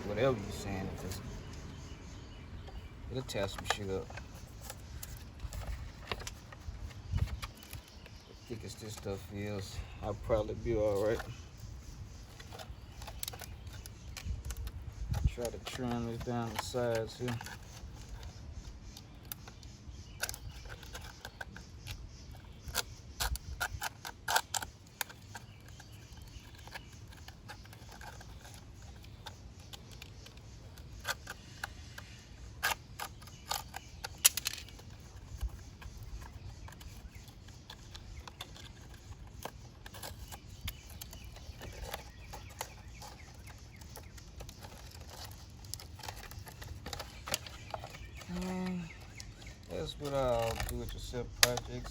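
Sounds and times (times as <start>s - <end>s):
handling noises: 0.0s - 51.9s.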